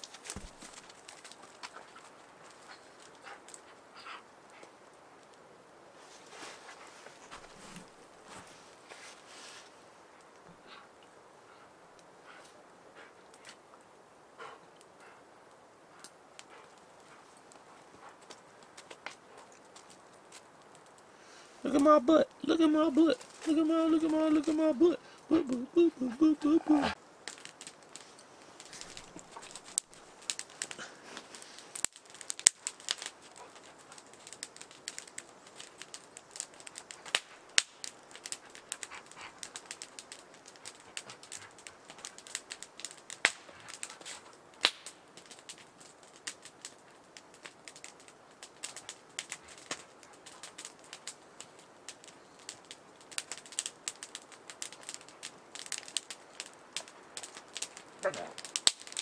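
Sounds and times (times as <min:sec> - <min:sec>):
sharp pops and snaps: 0:00.0 - 0:05.4, 0:11.9 - 0:25.6, 0:26.2 - 0:59.0
wood fire crackling: 0:00.0 - 0:59.0.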